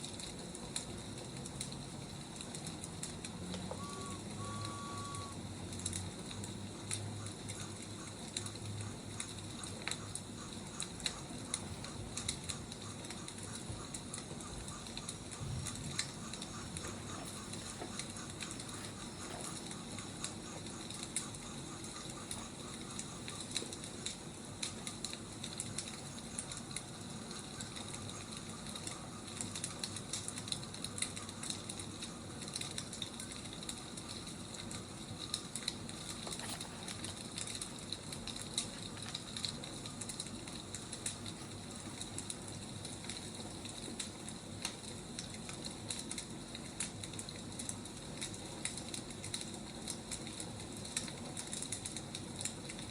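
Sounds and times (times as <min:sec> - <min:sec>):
firewood crackling and popping: 0:00.0 - 0:52.9.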